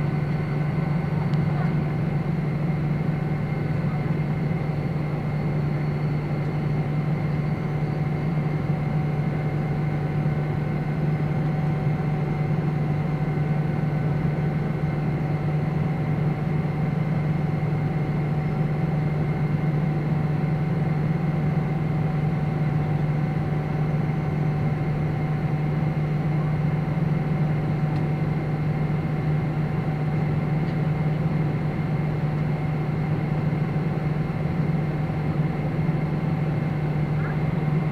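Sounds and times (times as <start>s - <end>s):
airplane cabin engine drone: 0.0s - 37.9s.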